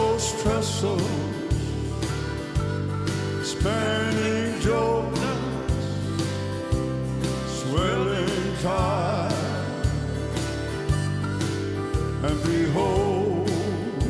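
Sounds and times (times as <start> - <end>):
man singing with vibrato: 0.0 - 10.3, 11.9 - 14.0
country gospel band: 0.0 - 14.0
drums steady beat: 0.0 - 14.0
piano: 0.0 - 14.0.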